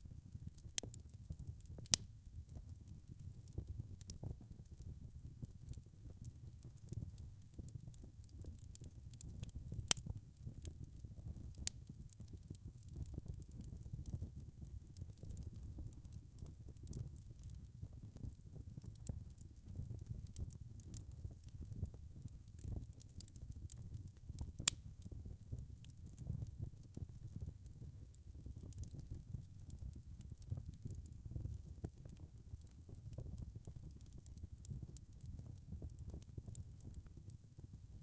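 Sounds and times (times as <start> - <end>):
wood fire crackling: 0.3 - 38.0.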